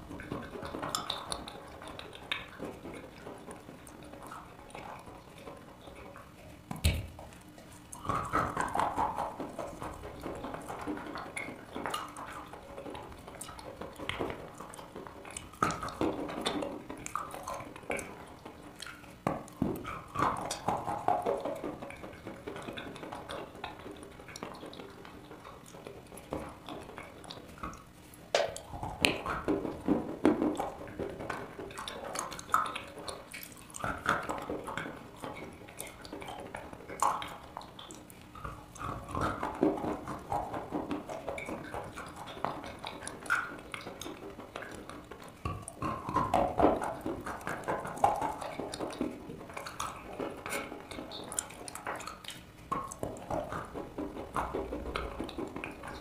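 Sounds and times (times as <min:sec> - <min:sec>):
chewing chalk: 0:00.0 - 0:56.0.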